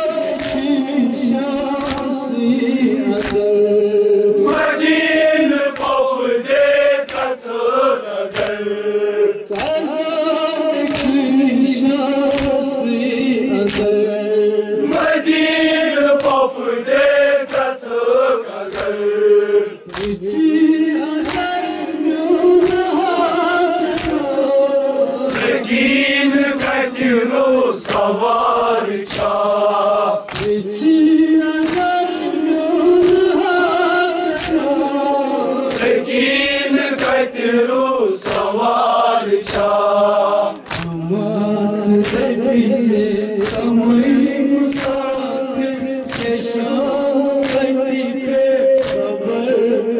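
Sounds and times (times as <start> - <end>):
men chanting in unison: 0.0 - 49.9
rhythmic chest-beating slaps: 0.0 - 49.9.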